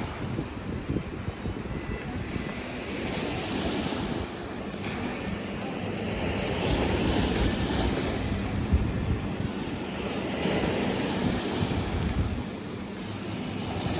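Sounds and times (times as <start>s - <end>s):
surf washing onto beach: 0.0s - 13.9s
wind buffeting microphone: 0.0s - 13.9s.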